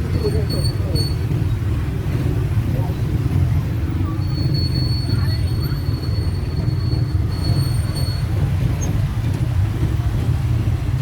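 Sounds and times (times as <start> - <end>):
road vehicle rumbling: 0.0 - 11.0.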